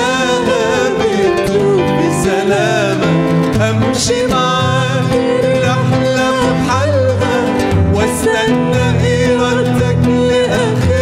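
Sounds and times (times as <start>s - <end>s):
instrumental accompaniment: 0.0s - 11.0s.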